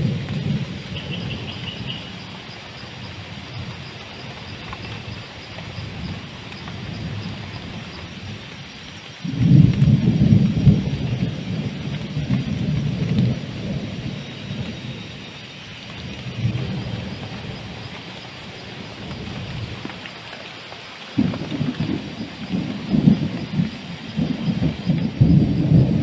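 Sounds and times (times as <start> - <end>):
thunder rumbling: 0.0 - 20.1, 21.1 - 26.0
heavy rain: 0.0 - 26.0.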